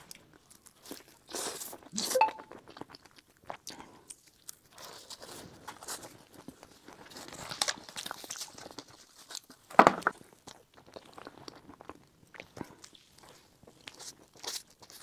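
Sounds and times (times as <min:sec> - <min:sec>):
soft biting and chewing: 0:00.0 - 0:15.0.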